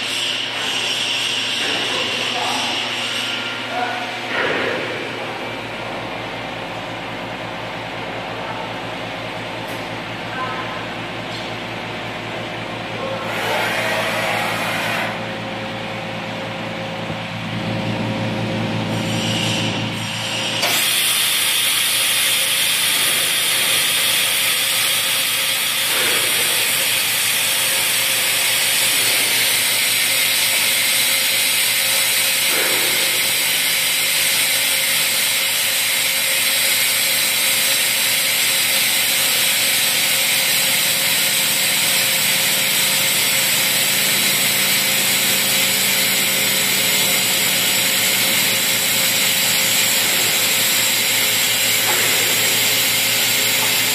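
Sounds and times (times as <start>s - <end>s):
machine hum: 0.0s - 53.9s.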